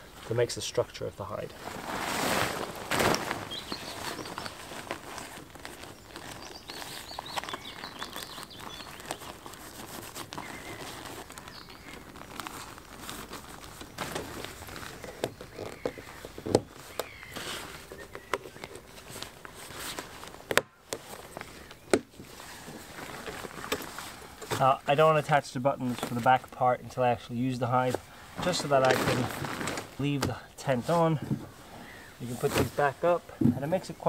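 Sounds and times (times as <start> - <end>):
tent fabric rustling: 0.0 - 34.0.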